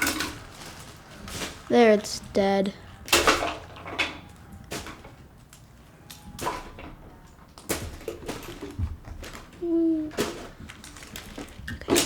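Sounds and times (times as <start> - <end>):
plastic toys clicking and knocking: 0.0 - 12.0.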